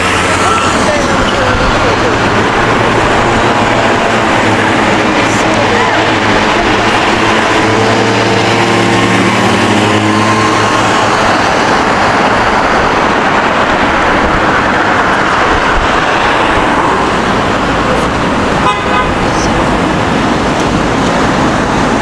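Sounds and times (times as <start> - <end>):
engine humming: 0.0 - 22.0
passing vehicles: 0.0 - 22.0.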